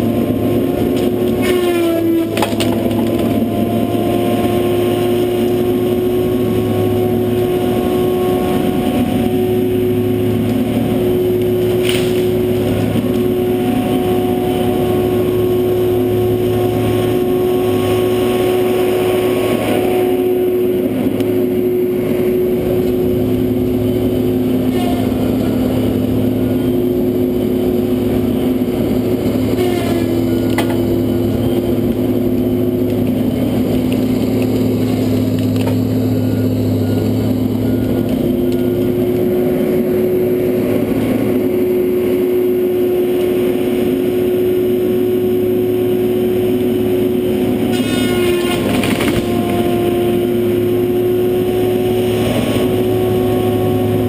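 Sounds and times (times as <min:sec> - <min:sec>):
diesel engine hum: 0:00.0 - 0:54.0.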